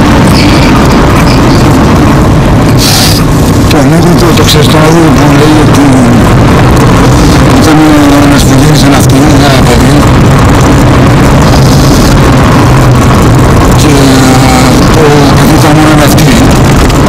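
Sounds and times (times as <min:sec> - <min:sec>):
car engine running at speed: 0:00.0 - 0:17.0
road noise: 0:00.0 - 0:17.0.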